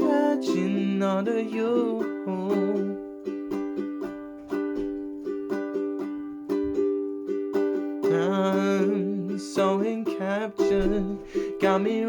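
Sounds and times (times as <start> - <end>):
ukulele strumming chords: 0.0 - 12.0.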